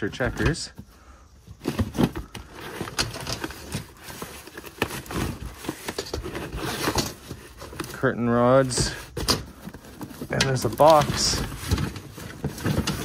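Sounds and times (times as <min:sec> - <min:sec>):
paper and cardboard rustling: 0:01.4 - 0:13.0.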